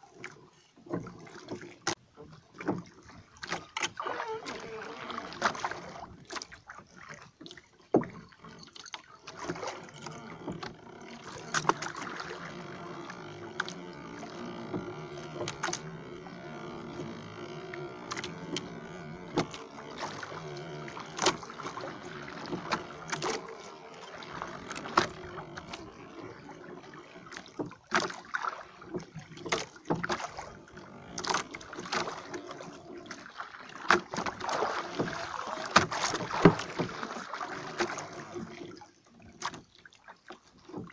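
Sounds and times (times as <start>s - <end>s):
oars knocking in wooden boat: 0.0s - 40.9s
water sounds: 0.0s - 40.9s.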